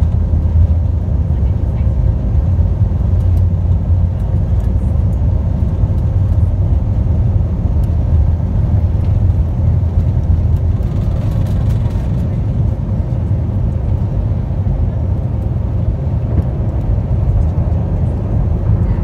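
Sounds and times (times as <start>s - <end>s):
jet engines rumbling: 0.0s - 19.0s
wheels rumbling on runway: 0.0s - 19.0s.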